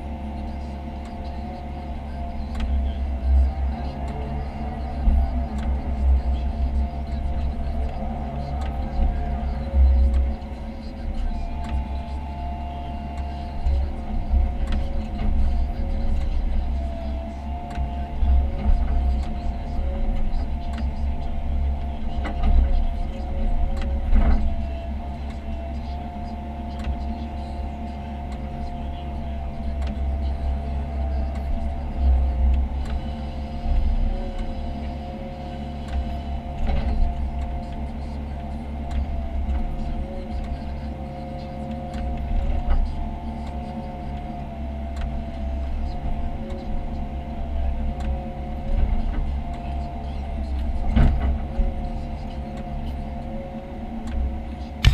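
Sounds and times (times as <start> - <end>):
excavator diesel engine running: 0.0 - 54.9
hydraulic whine: 0.0 - 54.9.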